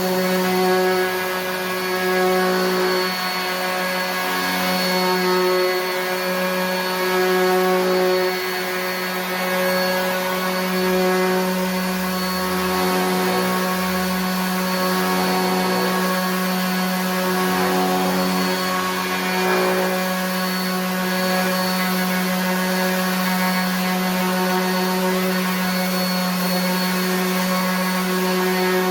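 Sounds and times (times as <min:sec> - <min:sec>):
orbit sander sanding wood: 0:00.0 - 0:28.9.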